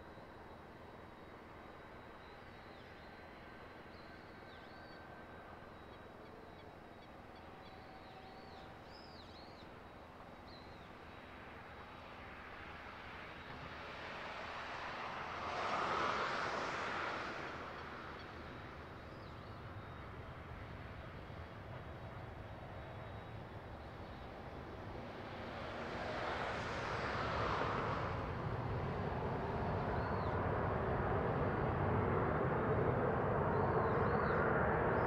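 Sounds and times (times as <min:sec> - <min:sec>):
distant jet engines idling: 0:00.0 - 0:35.0.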